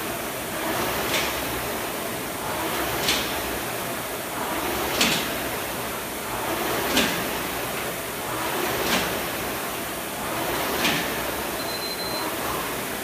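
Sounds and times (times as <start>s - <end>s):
rowing machine flywheel whooshing: 0.0s - 11.6s, 12.2s - 13.0s.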